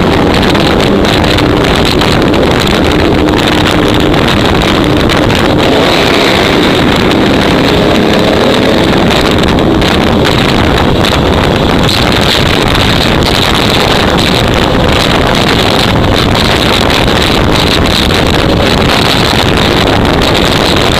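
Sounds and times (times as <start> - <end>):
vehicle engine running: 0.0 - 20.9
wind buffeting microphone: 0.0 - 20.9.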